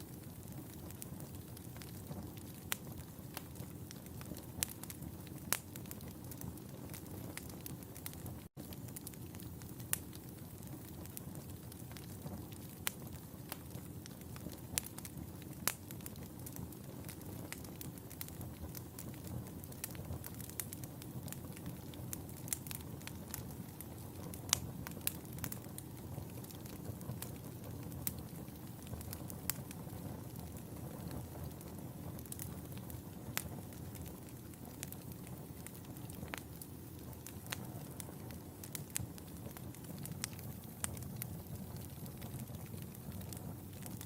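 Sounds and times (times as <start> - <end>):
fire crackling and popping: 0.0 - 44.0
fire flames rumbling: 0.0 - 44.0.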